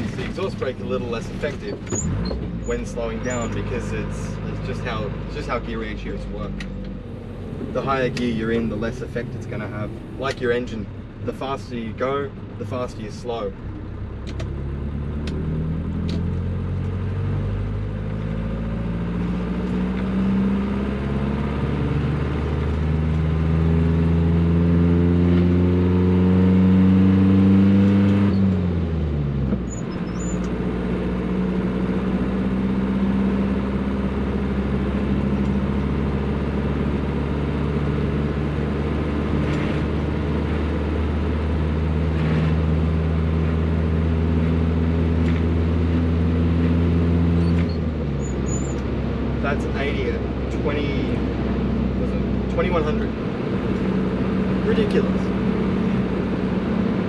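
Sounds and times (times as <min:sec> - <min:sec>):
truck engine revving: 0:00.0 - 0:13.1, 0:14.0 - 0:57.0
road noise: 0:00.0 - 0:57.0.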